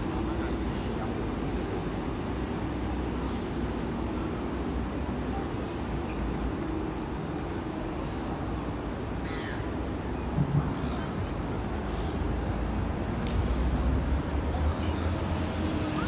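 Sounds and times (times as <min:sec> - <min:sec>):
city street ambience hum: 0:00.0 - 0:16.0.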